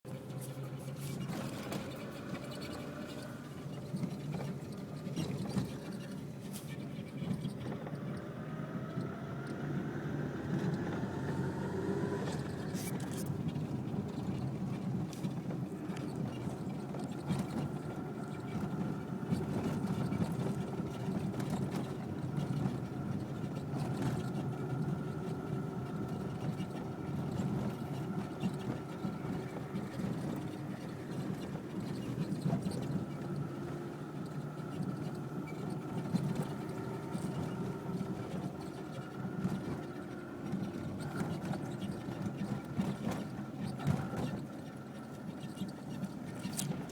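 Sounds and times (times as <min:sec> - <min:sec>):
car cabin engine noise: 0:00.1 - 0:46.9.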